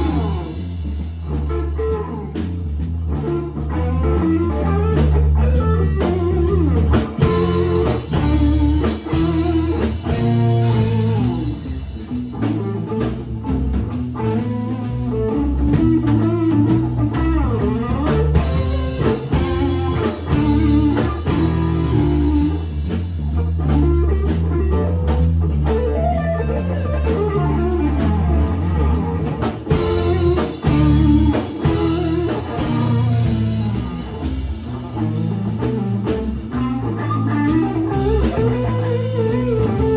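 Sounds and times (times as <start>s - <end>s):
drum kit beat: 0.0s - 39.9s
electric guitars: 0.0s - 39.9s.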